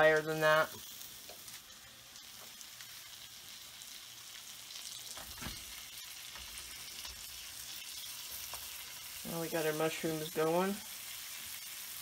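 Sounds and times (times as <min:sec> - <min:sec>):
mushrooms sizzling in butter: 0:00.0 - 0:12.0.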